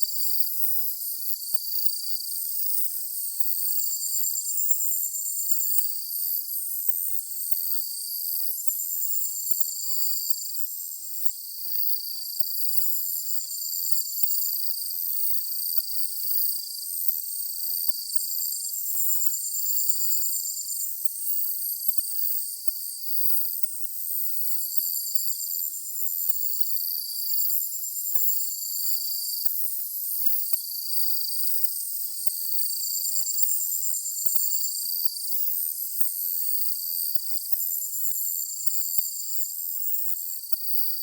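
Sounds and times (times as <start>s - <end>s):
insects trilling and chirping: 0.0s - 41.0s.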